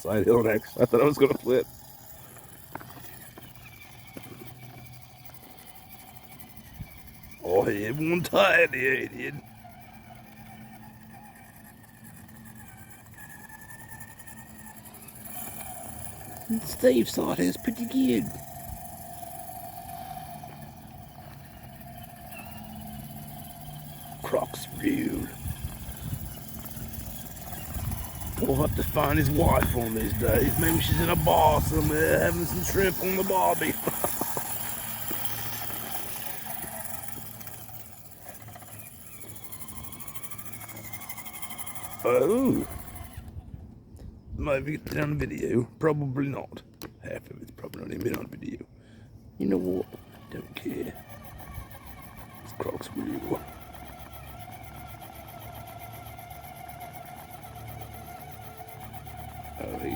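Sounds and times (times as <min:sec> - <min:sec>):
higher-pitched motor tone: 0:00.0 - 0:44.0, 0:49.4 - 0:59.9
electric motor whine: 0:00.0 - 0:45.2, 0:49.3 - 0:59.9.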